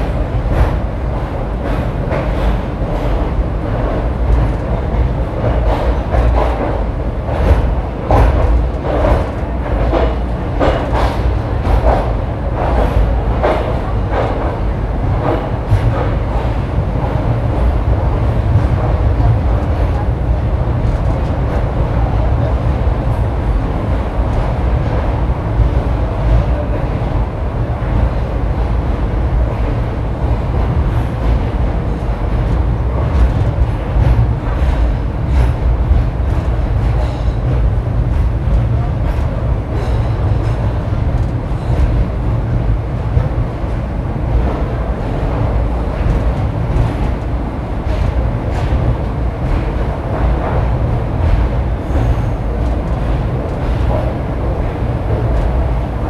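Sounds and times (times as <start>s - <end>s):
train coaches rumbling: 0.0s - 56.0s.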